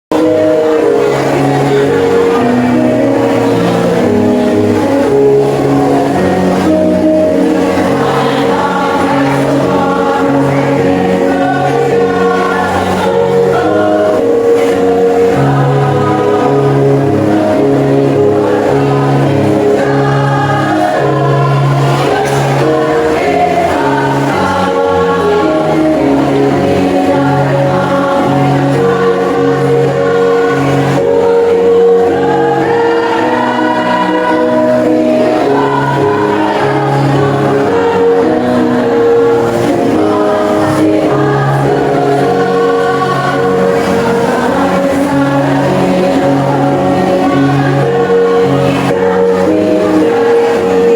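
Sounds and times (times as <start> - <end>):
choir singing in harmony: 0.1 - 50.9.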